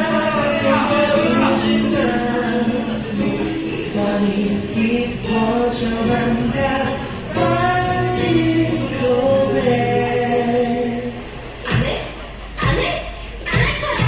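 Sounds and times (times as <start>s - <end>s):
voices singing together: 0.0s - 11.7s.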